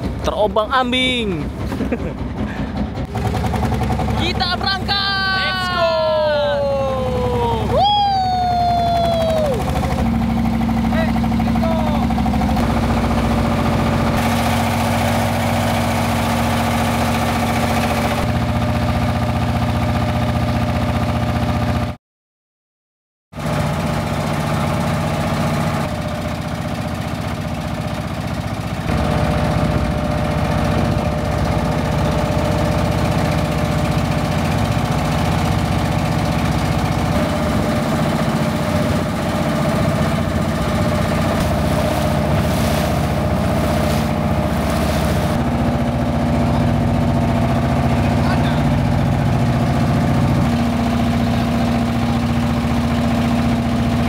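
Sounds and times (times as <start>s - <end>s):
boat engine running: 0.0s - 22.0s, 23.4s - 54.0s.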